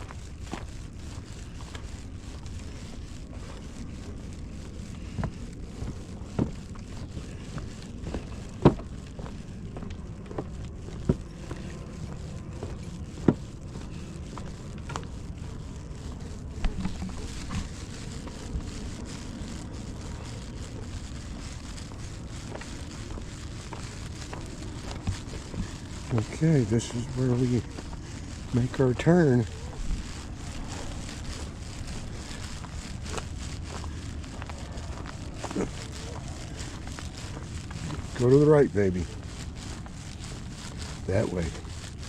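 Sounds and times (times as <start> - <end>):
wind rumble on microphone: 0.0 - 42.0.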